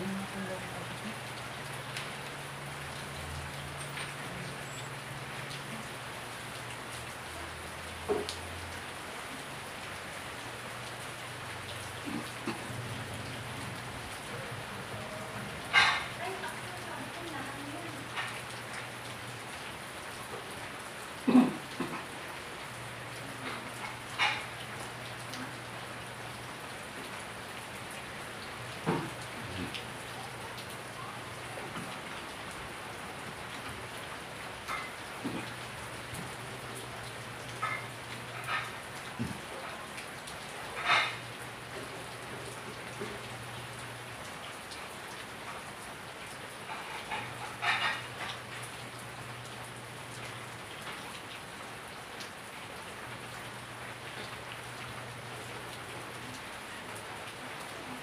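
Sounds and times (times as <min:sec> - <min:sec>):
raindrops tapping: 0:00.0 - 0:57.7
rain falling on plants: 0:00.0 - 0:58.0.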